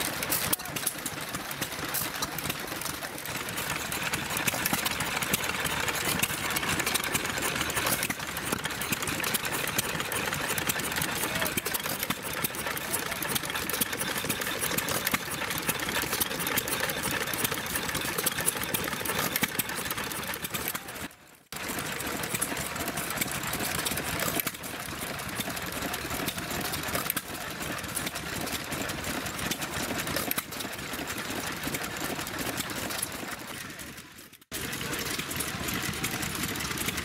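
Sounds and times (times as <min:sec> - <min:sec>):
stationary engines clattering: 0:00.0 - 0:37.0.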